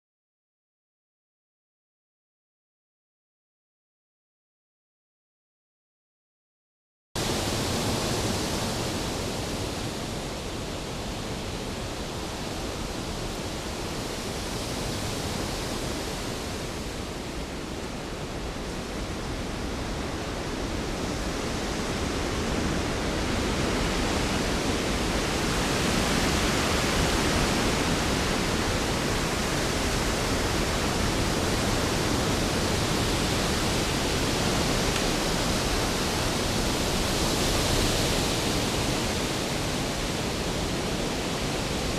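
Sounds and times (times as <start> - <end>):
rain: 7.2 - 41.9
wind: 7.2 - 41.9.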